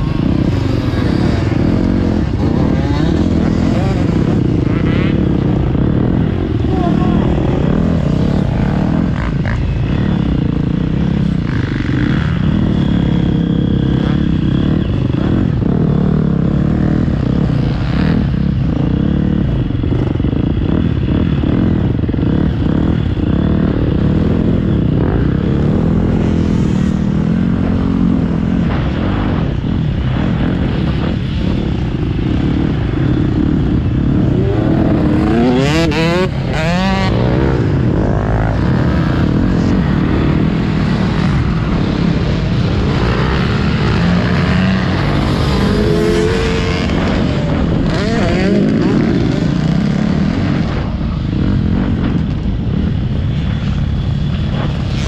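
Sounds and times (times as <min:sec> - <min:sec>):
dirt bike revving: 0:00.0 - 0:55.0
motocross bike engine: 0:00.0 - 0:55.0.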